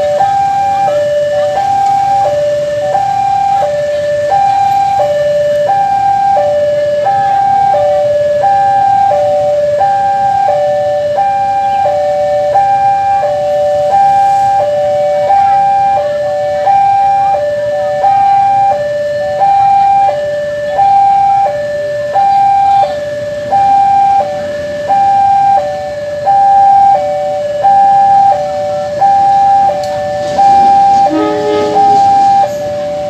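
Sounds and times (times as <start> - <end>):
two-tone level crossing alarm: 0.0 - 33.0.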